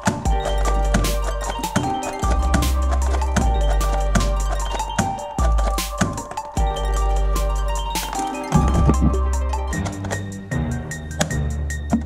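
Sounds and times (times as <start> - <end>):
music with drums and deep bass: 0.0 - 12.0.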